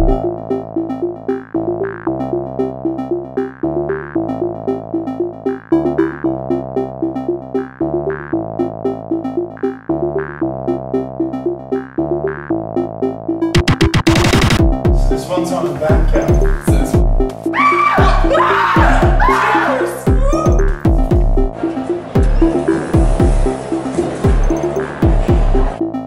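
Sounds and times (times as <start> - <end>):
electronic synthesizer music: 0.0 - 26.0.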